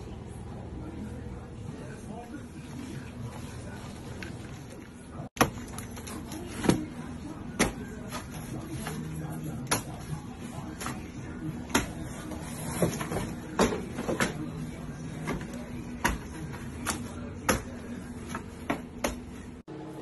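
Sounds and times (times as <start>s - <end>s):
kitchen hum: 0.0s - 20.0s.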